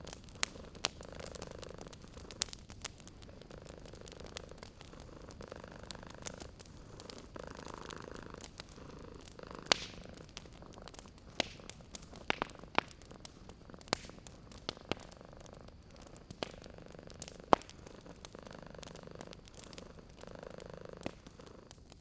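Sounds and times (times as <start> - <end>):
cat purring: 0.0 - 22.0
wood fire crackling and popping: 0.0 - 22.0.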